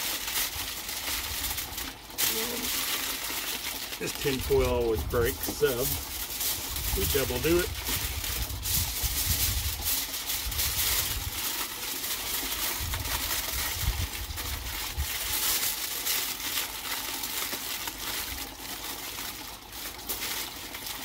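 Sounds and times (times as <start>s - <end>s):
aluminium foil crinkling: 0.0s - 21.0s.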